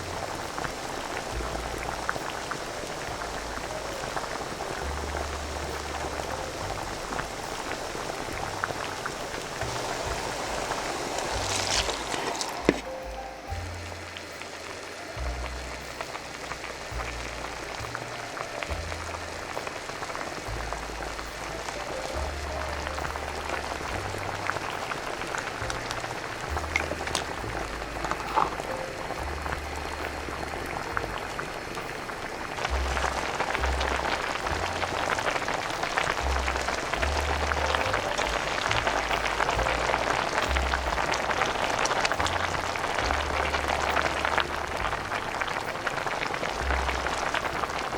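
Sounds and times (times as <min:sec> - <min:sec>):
broth boiling in a pot: 0:00.0 - 0:47.9.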